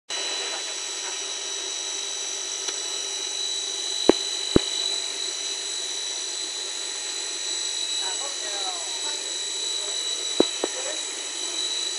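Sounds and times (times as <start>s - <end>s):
machine drone with high whine: 0.1s - 11.9s.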